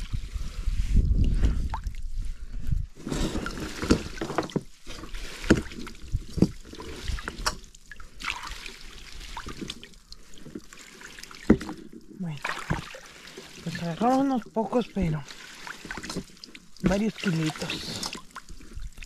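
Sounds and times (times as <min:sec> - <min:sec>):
water splashing and dripping: 0:03.4 - 0:19.0.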